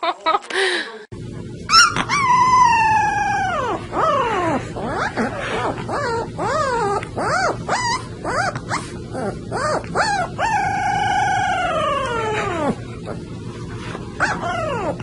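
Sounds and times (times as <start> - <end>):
puppy howling: 1.7 - 13.2, 14.2 - 15.0.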